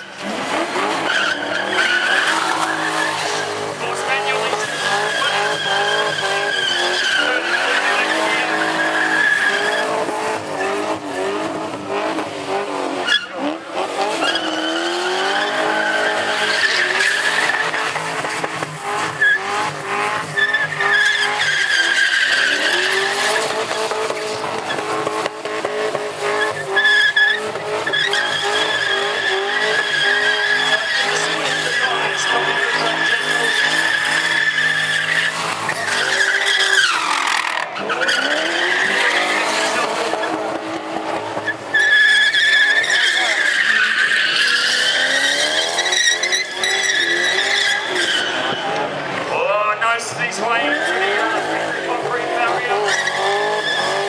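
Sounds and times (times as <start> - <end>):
tyres squealing: 0.0 - 11.0, 13.0 - 25.0, 26.3 - 54.0
car engine revving: 0.0 - 54.0.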